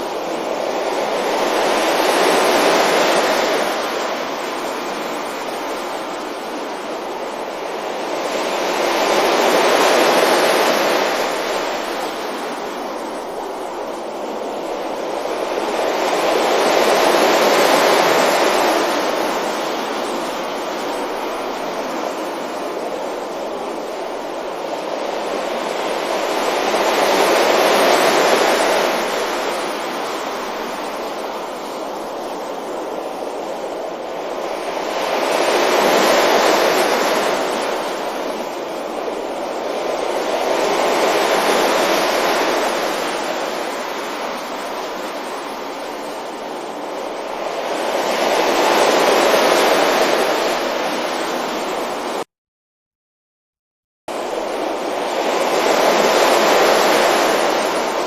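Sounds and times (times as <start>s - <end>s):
waves breaking on a beach: 0.0s - 52.3s, 54.1s - 58.0s.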